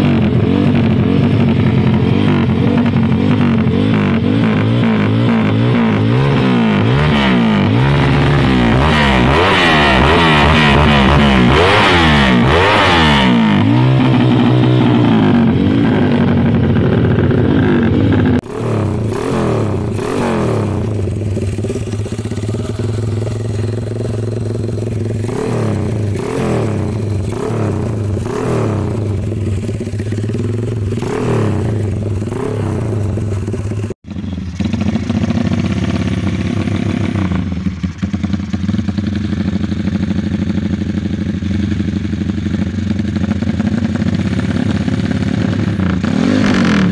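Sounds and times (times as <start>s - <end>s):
motorcycle engine revving: 0.0s - 46.9s
motorcycle idling: 0.0s - 46.9s.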